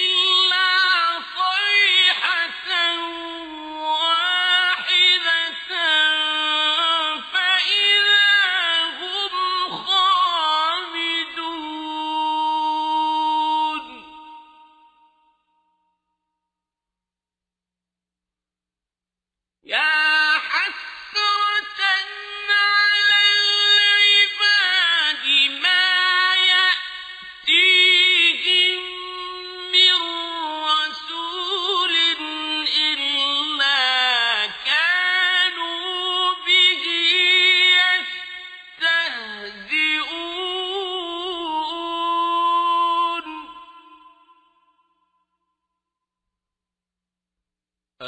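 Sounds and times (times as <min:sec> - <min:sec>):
man reciting melodically: 0:00.0 - 0:14.4, 0:19.7 - 0:44.0.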